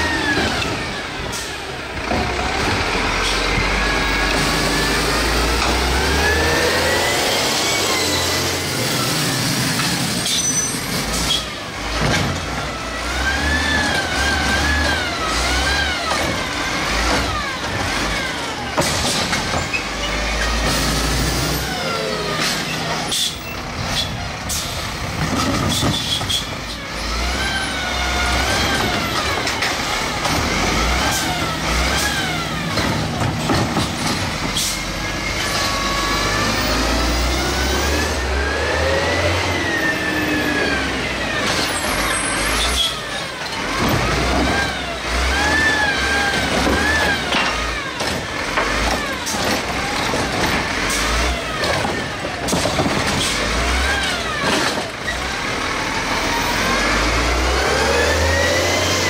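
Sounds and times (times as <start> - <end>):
garbage truck engine revving: 0.0 - 59.0.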